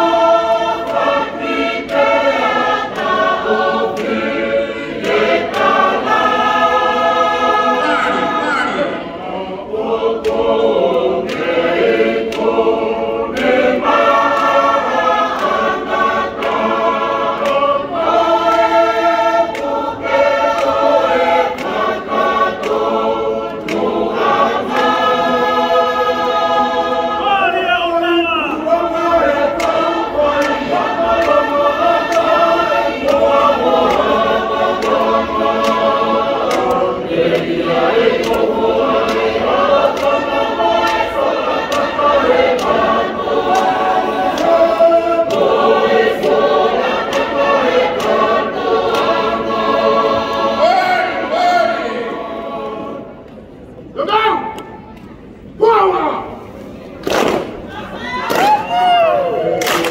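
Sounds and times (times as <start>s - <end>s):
choir singing in harmony: 0.0s - 53.9s, 59.0s - 59.9s.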